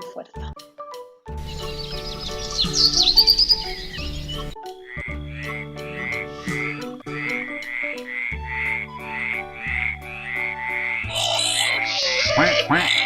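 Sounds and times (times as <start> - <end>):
background music with held notes: 0.0 - 13.0
frog croaking: 2.6 - 13.0.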